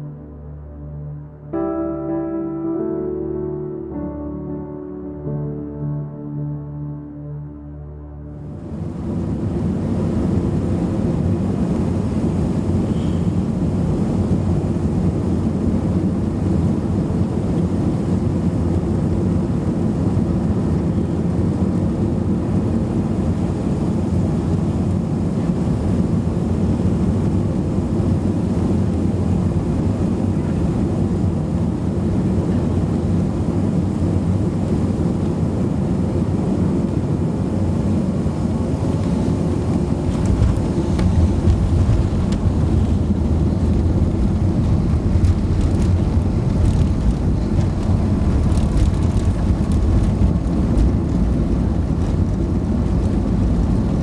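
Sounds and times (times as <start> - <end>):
airplane cabin engine rumble: 8.2 - 54.0.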